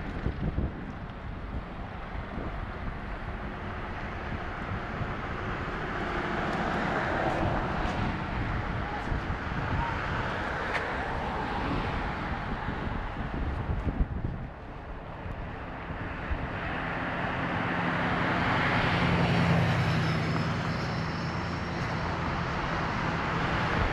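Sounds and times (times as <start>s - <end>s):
helicopter rotor and turbine: 0.0s - 23.9s
wind buffeting microphone: 0.0s - 23.9s.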